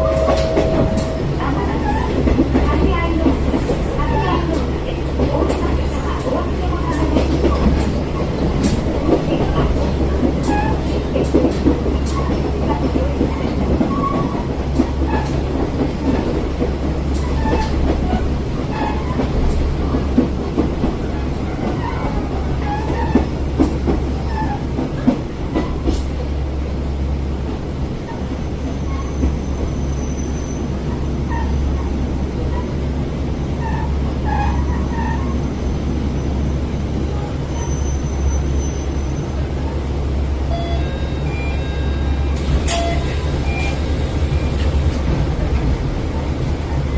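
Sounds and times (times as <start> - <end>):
train engine drone: 0.0 - 46.9
wheel-on-rail rumble: 0.0 - 46.9.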